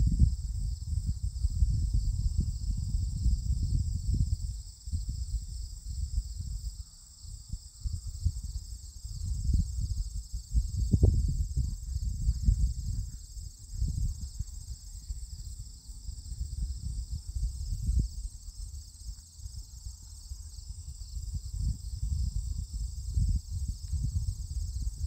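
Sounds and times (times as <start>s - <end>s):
insect chorus chirring: 0.0s - 25.0s
wind buffeting microphone: 0.0s - 25.0s.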